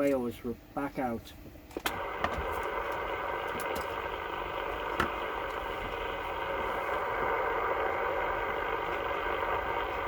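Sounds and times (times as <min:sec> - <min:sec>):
faint steady radio tones: 0:00.0 - 0:10.0
radio static hiss: 0:01.9 - 0:10.0.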